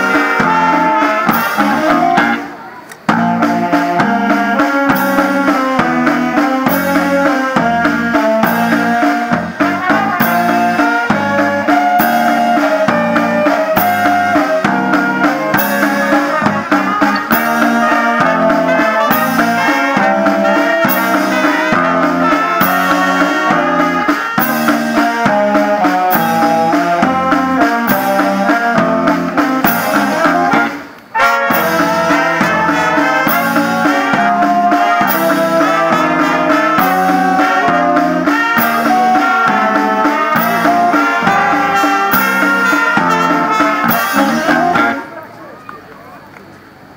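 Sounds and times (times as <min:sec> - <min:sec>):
steady drum beat: 0:00.0 - 0:45.1
wind band playing a tune: 0:00.0 - 0:46.9.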